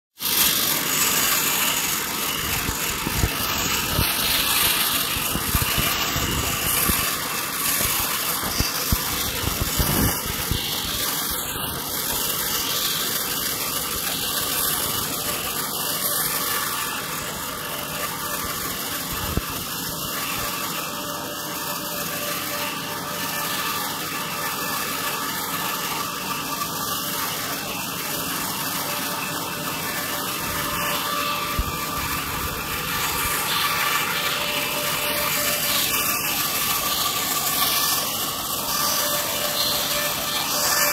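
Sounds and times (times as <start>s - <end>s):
band saw cutting log: 0.1s - 40.9s.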